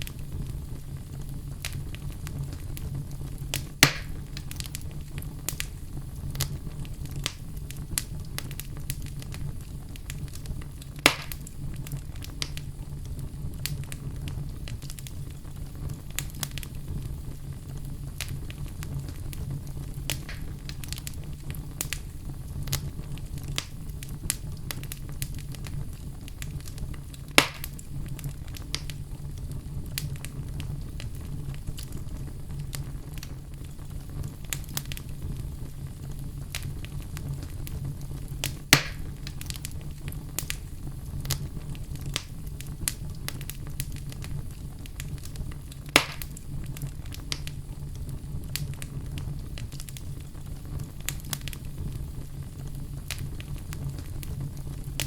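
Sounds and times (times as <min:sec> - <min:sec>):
fire popping: 0:00.0 - 0:55.0
wood fire crackling: 0:00.0 - 0:55.0.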